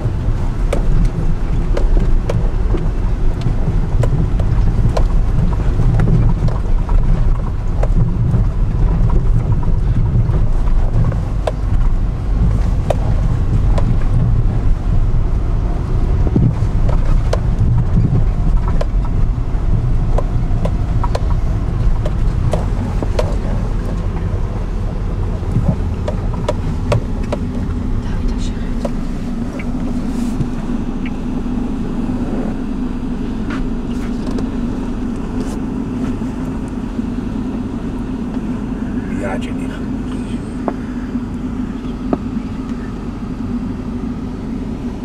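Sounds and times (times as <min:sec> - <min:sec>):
tyres and engine rumbling: 0:00.0 - 0:45.0.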